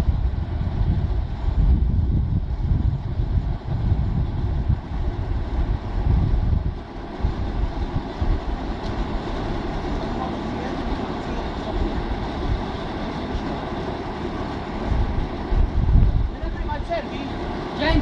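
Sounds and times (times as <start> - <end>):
drilling rig engine running: 0.0 - 18.0.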